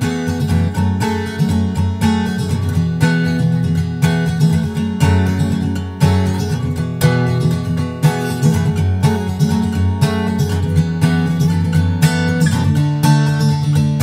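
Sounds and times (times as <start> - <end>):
solo acoustic guitar: 0.0 - 14.0.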